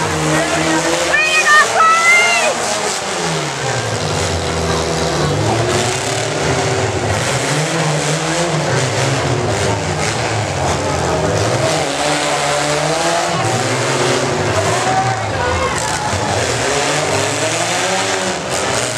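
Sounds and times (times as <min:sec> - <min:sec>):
pickup truck engine revving: 0:00.0 - 0:01.2, 0:01.8 - 0:18.9.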